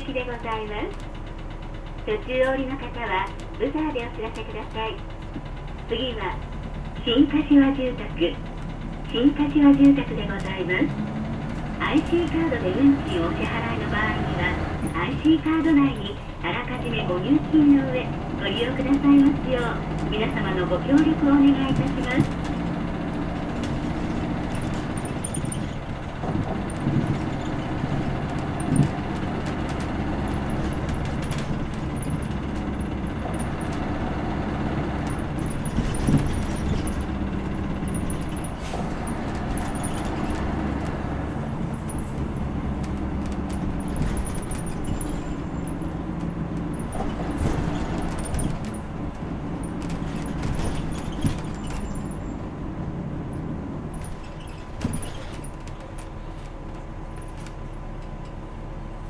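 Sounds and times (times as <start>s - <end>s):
bus engine running: 0.0s - 59.0s
road noise: 0.0s - 59.0s
body rattles and knocks: 8.2s - 58.5s.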